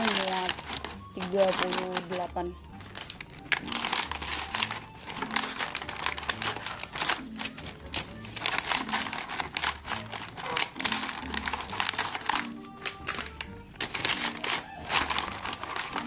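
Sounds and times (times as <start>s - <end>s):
plastic egg packs crinkling: 0.0s - 16.0s.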